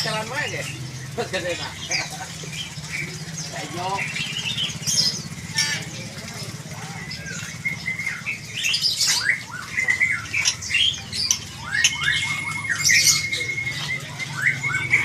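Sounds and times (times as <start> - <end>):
bird trilling: 0.0 - 15.0
songbirds squawking and chirping: 0.0 - 15.0.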